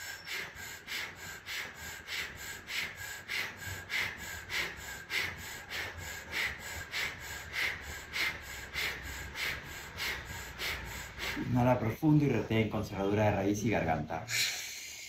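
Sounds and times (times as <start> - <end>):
man breathing rapidly through mouth: 0.0 - 11.8, 14.3 - 15.0.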